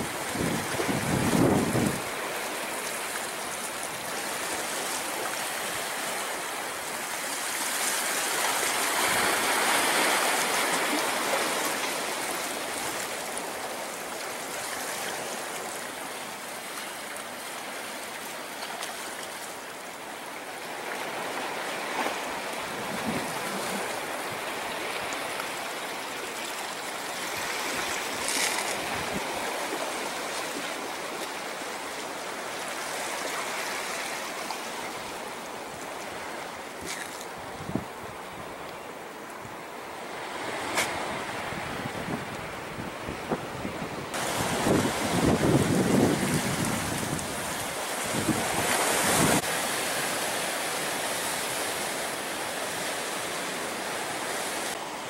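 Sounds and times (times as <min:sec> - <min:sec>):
ocean surf on beach: 0:00.0 - 0:55.0.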